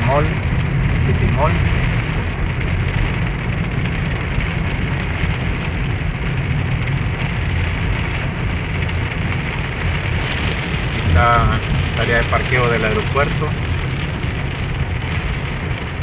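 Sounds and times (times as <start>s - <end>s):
car driving on wet road: 0.0s - 16.0s
heavy rain on car: 0.0s - 16.0s.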